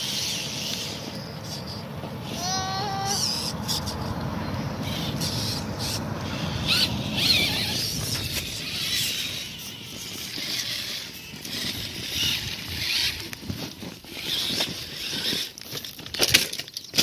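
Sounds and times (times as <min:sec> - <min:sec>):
electric motors whining: 0:00.0 - 0:17.0
tyres crunching on dirt: 0:03.2 - 0:17.0.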